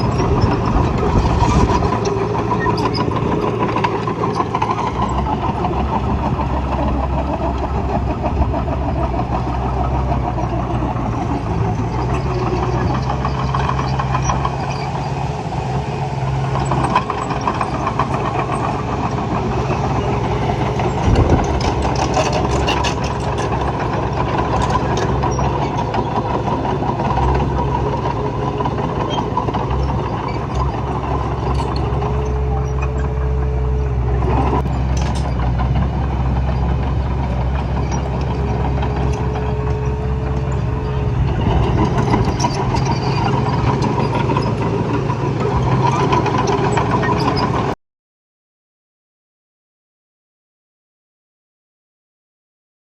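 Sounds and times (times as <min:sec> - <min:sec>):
heavy machinery engine running: 0:00.0 - 0:47.8.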